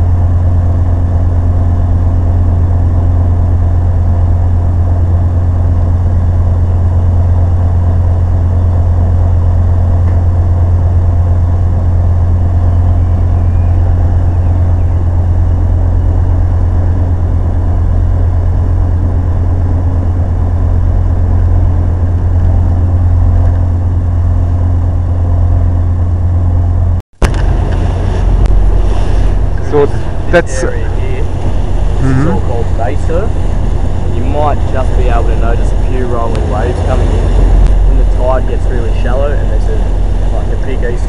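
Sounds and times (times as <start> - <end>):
ferry engine drone: 0.0 - 41.0.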